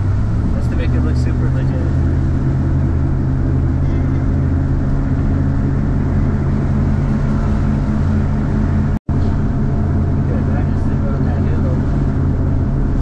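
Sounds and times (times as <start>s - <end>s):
engine and road noise inside cab: 0.0s - 13.0s.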